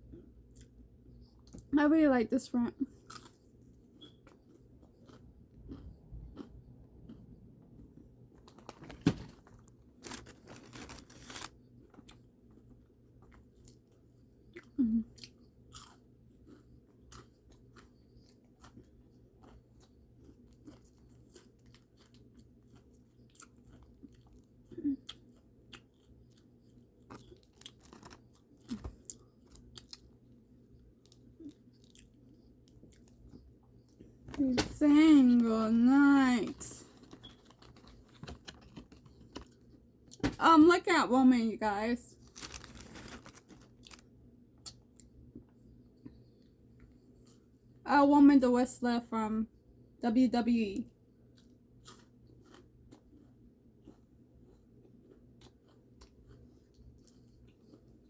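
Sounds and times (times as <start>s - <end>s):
chewing and crunching fried food: 0.0s - 1.7s, 2.5s - 40.3s, 41.7s - 47.8s, 50.8s - 58.0s.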